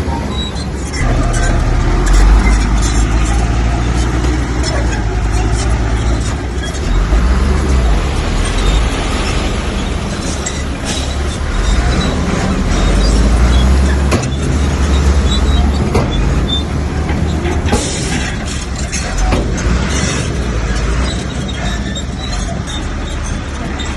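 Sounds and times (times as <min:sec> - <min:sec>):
bulldozer engine rumbling: 0:00.0 - 0:23.9
tracks knocking and clanking: 0:00.8 - 0:23.9.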